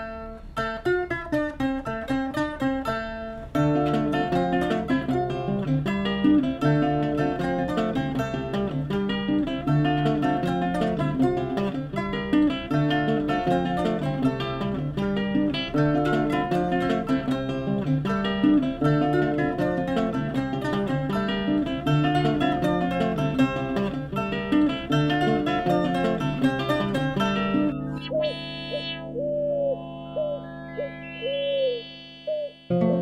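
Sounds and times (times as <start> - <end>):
guitar picking and strumming: 0.0 - 33.0.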